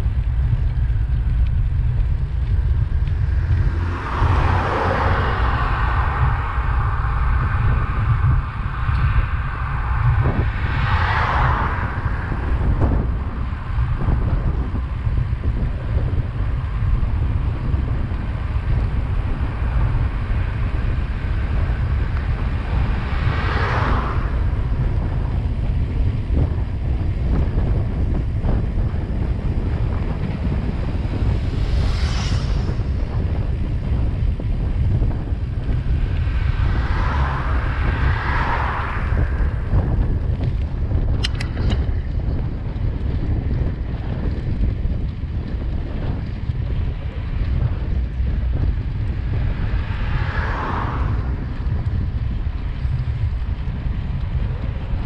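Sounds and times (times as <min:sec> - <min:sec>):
motor vehicles passing: 0:00.0 - 0:55.0
wind buffeting microphone: 0:00.0 - 0:55.0.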